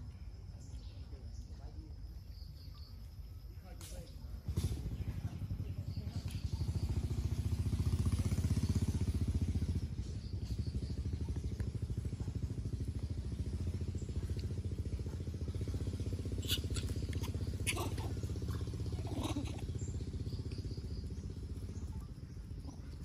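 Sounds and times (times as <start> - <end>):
small engine running: 4.3 - 23.0.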